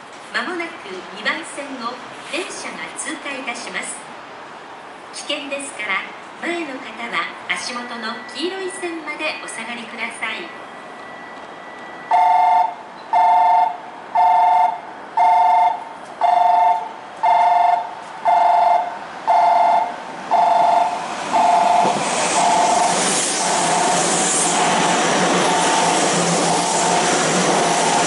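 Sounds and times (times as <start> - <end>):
train rushing through station: 0.0 - 28.0.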